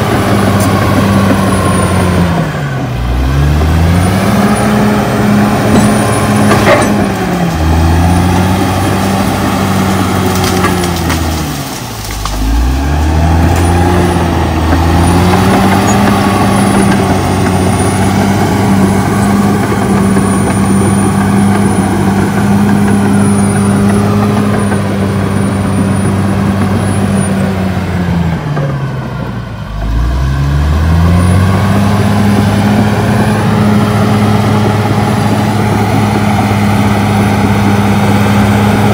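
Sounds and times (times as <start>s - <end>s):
bulldozer diesel engine running: 0.0s - 38.9s
bulldozer pushing earth: 0.0s - 38.9s.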